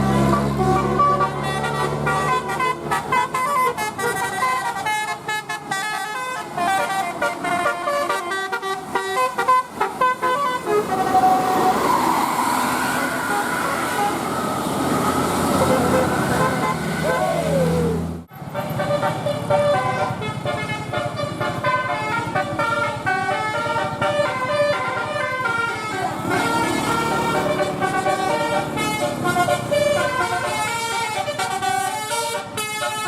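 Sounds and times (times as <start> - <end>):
multi-tone bus horn melody: 0.0 - 33.0
street and vehicle noise: 0.0 - 33.0.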